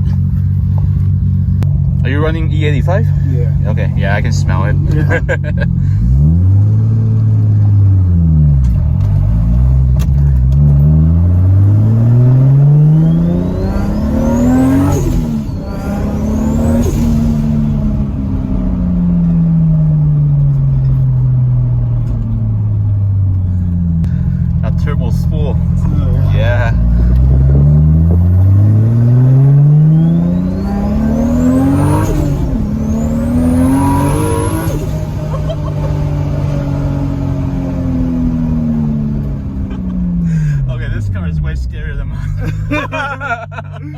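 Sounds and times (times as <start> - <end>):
car engine revving from inside: 2.4 - 41.3.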